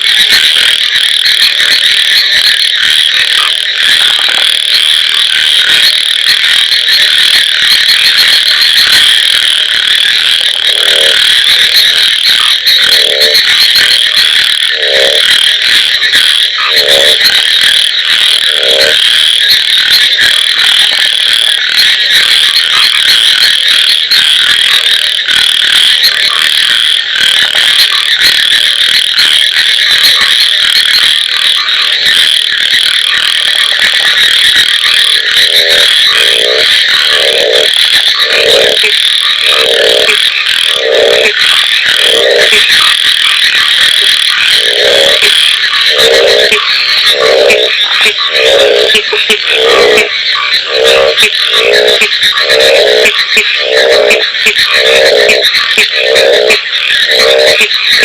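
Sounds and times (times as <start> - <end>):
deep frog croaks: 0.0 - 58.0
high-pitched frog trilling: 0.0 - 58.0.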